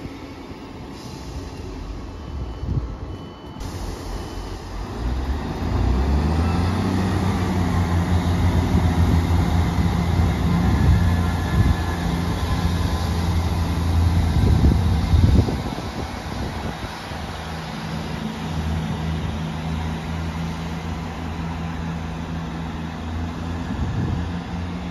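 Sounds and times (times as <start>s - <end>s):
diesel train engine droning: 0.0s - 24.9s.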